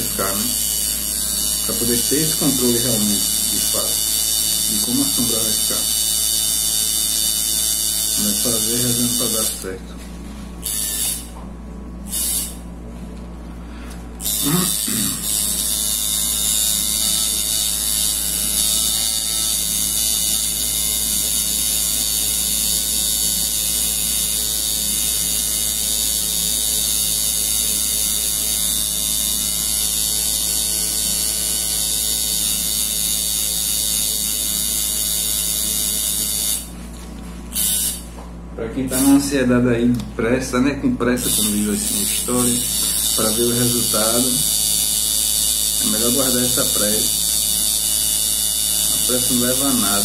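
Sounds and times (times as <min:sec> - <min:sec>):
tattoo machine buzzing: 0:00.0 - 0:09.8, 0:10.4 - 0:13.3, 0:13.9 - 0:38.3, 0:38.9 - 0:39.3, 0:41.1 - 0:50.0.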